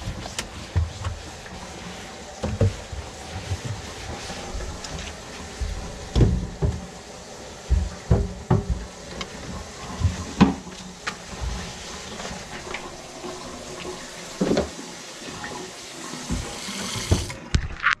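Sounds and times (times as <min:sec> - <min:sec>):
tap water running into sink: 0:00.0 - 0:17.9.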